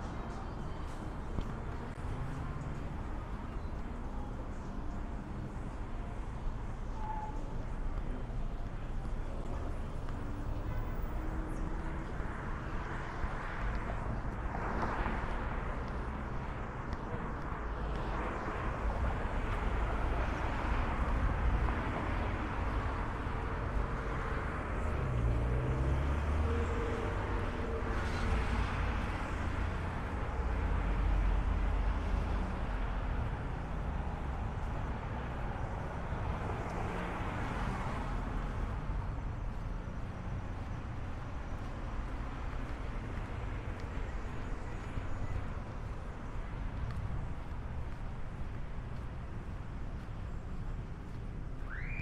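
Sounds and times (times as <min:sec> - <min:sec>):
cars passing: 0:00.0 - 0:52.0
road noise: 0:00.0 - 0:52.0.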